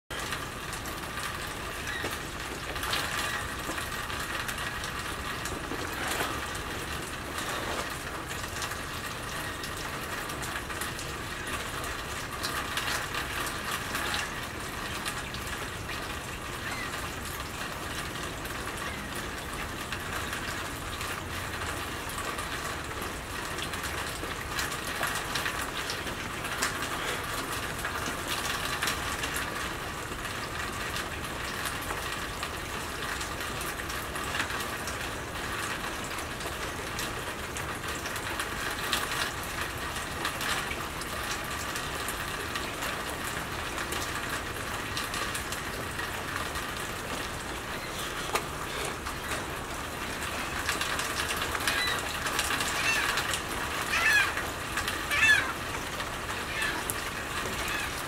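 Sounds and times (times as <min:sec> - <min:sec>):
rain on wet pavement: 0:00.1 - 0:58.0
sharp water drips: 0:00.1 - 0:58.0.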